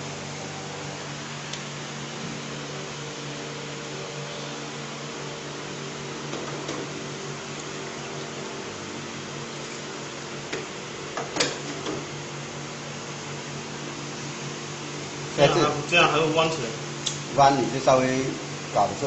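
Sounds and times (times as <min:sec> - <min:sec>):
fan humming: 0:00.0 - 0:19.0.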